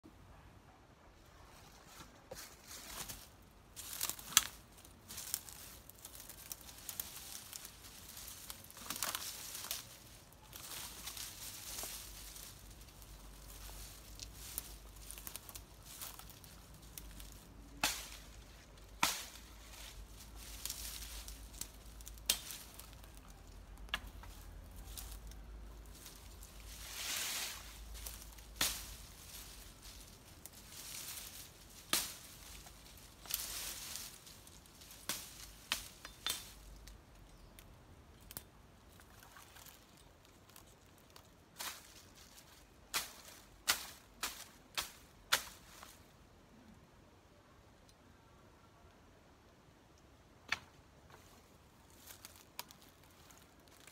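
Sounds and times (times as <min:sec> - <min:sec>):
branches rustling dragged: 0:01.3 - 0:37.6, 0:38.2 - 0:46.1, 0:51.1 - 0:53.9
dry twigs snapping: 0:02.8 - 0:45.9, 0:51.9 - 0:53.9.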